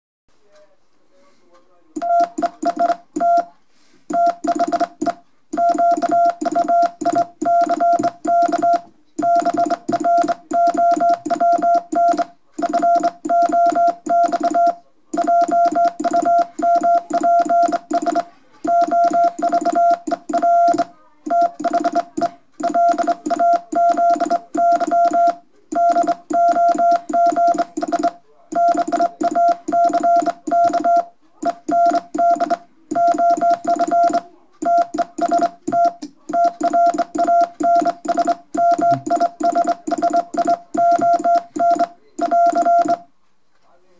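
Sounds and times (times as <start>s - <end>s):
morse code sidetone beeps: 2.0s - 3.5s, 4.1s - 43.1s.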